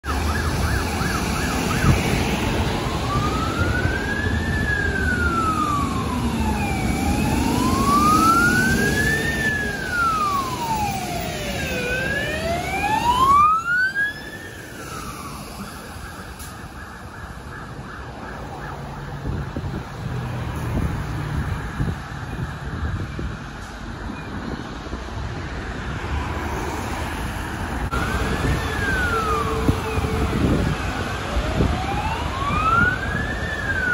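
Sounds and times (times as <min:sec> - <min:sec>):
fire engine siren: 0:00.0 - 0:24.9, 0:25.7 - 0:33.9
traffic on wet road: 0:00.0 - 0:33.9.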